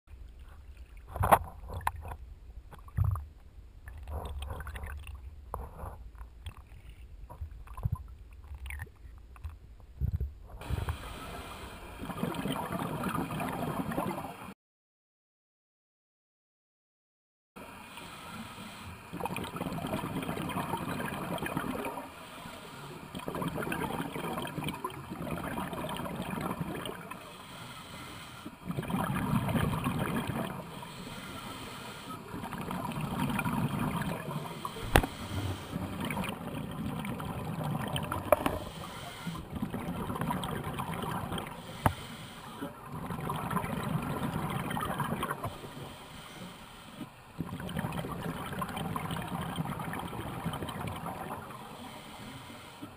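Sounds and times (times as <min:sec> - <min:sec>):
scuba regulator bubbling: 0:01.0 - 0:14.4, 0:18.1 - 0:52.8.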